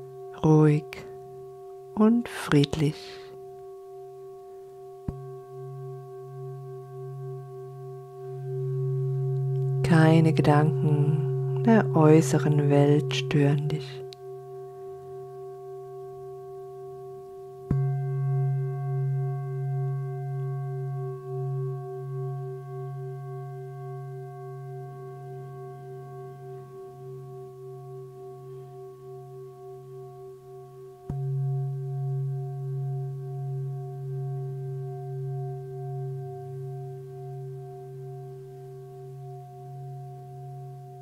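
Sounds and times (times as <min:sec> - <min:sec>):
singing bowl ringing: 0:00.0 - 0:41.0
singing bowl strike: 0:03.4 - 0:41.0.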